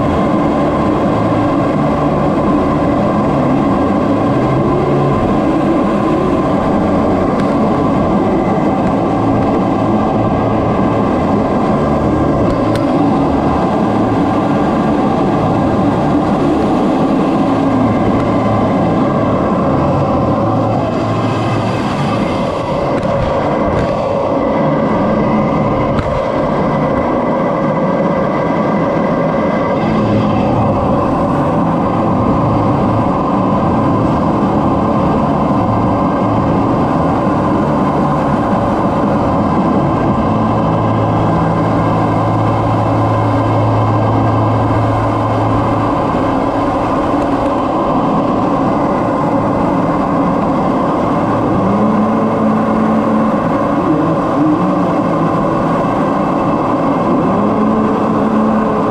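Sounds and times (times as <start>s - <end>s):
jet engine and airflow noise: 0.0s - 58.9s
low hum: 0.0s - 58.9s.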